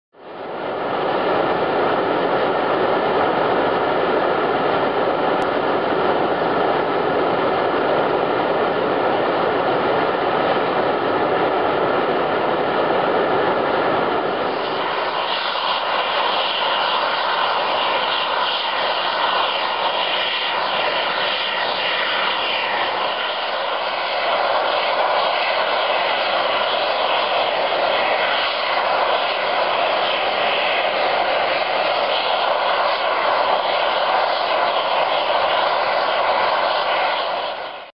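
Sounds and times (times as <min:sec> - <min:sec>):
steam fumarole hissing: 0:00.2 - 0:37.9.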